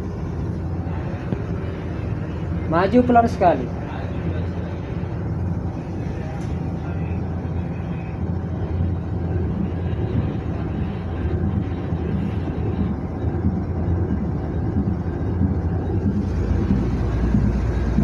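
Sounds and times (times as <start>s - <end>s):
ship diesel engine rumbling: 0.0s - 18.0s.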